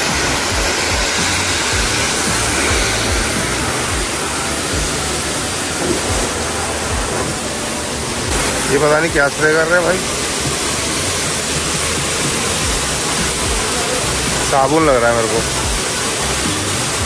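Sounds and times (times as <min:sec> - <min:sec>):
background music: 0:00.0 - 0:17.0
car wash equipment hissing: 0:00.0 - 0:17.0
low beat: 0:00.0 - 0:17.0.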